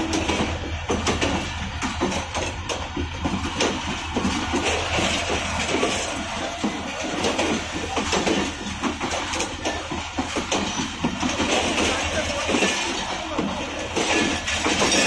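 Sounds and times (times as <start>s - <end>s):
train clanks and clatter: 0.0s - 15.0s
train wheels rumbling on rails: 0.0s - 15.0s.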